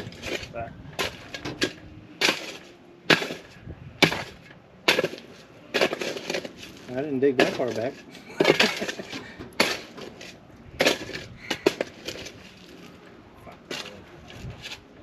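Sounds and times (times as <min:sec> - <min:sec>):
digging in dirt: 0:00.0 - 0:15.0.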